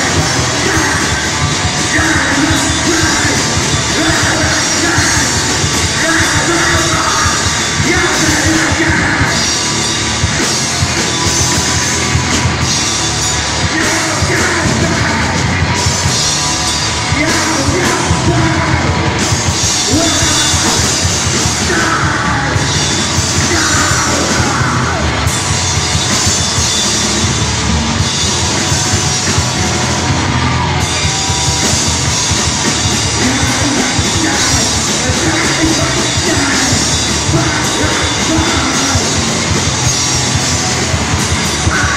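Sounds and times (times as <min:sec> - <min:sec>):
hardcore band playing: 0:00.0 - 0:41.9
yelled vocal: 0:00.0 - 0:41.9.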